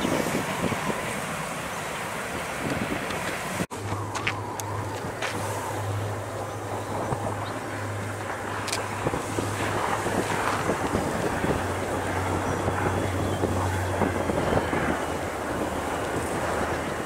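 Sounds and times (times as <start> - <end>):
distant diesel locomotives droning: 0.0 - 17.0
wind buffeting microphone: 0.0 - 17.0.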